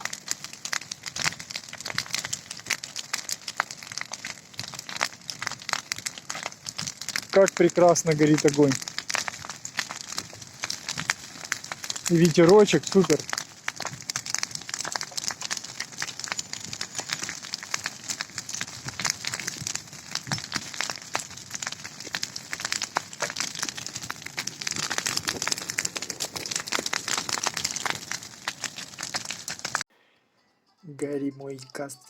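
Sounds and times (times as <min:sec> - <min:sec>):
bonfire crackling and popping: 0:00.0 - 0:29.9
fire hissing: 0:00.0 - 0:29.9.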